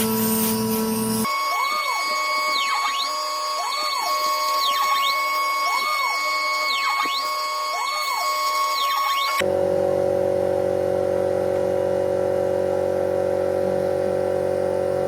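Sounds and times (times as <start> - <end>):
axis motors rising and falling: 0.0 - 15.0
router spindle whine: 0.0 - 15.0.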